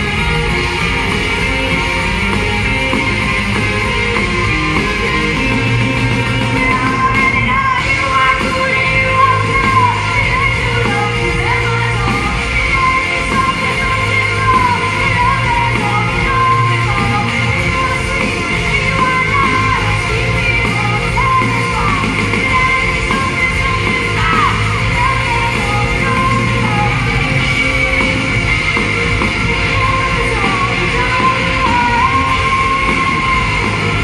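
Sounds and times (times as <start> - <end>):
live rock band playing: 0.0 - 34.0
woman singing lead: 0.0 - 34.0.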